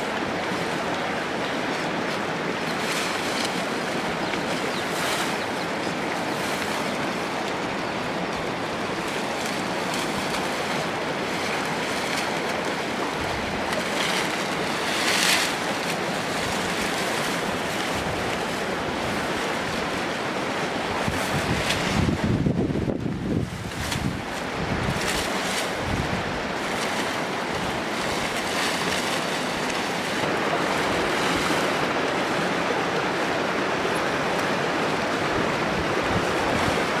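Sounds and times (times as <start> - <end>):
leafy branches rustling: 0.0 - 37.0.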